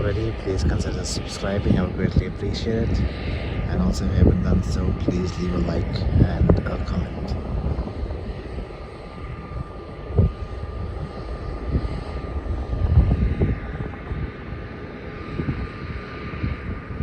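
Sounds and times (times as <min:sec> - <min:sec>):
jet engines rumbling: 0:00.0 - 0:17.0
thin steady whine: 0:00.0 - 0:17.0.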